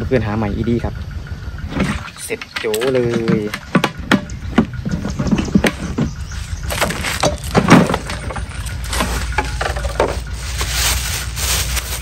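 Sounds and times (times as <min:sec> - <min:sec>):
steady low rumble: 0:00.0 - 0:12.0
rustling in storage compartment: 0:01.8 - 0:12.0.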